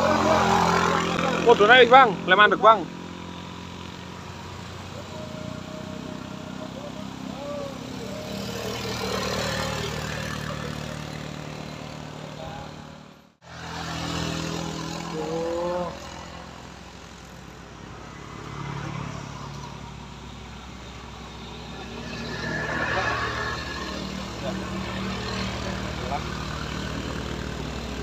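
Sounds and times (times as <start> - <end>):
vehicle engines under load: 0.0 - 28.0.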